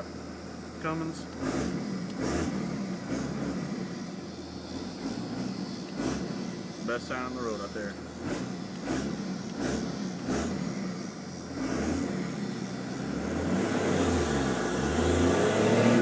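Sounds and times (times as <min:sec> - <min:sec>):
diesel truck accelerating: 0:00.0 - 0:16.0.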